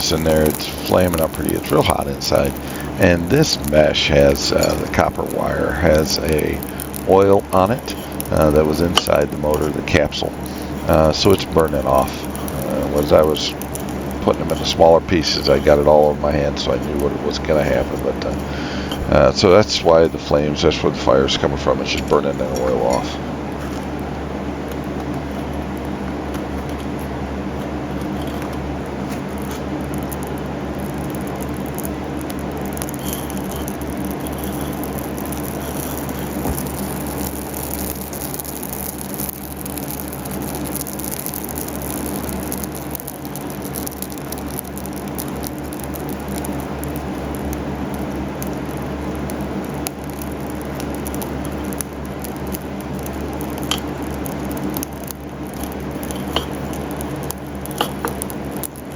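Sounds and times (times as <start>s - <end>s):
fine crackling: 0.0s - 58.9s
furnace rushing and humming: 0.0s - 58.9s.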